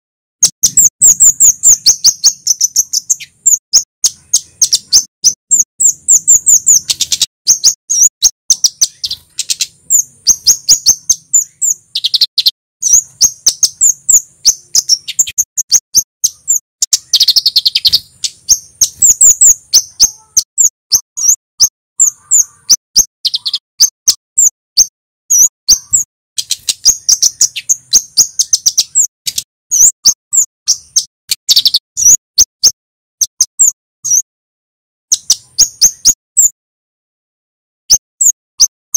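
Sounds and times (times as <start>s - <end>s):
bird singing sharp chips and trills: 0.4s - 34.3s, 35.0s - 36.6s, 37.8s - 38.9s.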